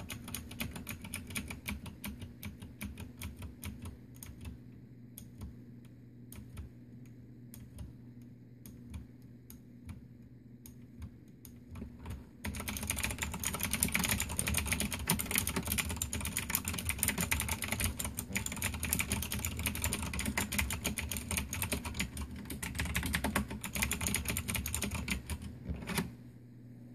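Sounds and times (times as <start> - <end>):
clicky mechanical keyboard typing: 0.0 - 8.0, 8.6 - 26.1.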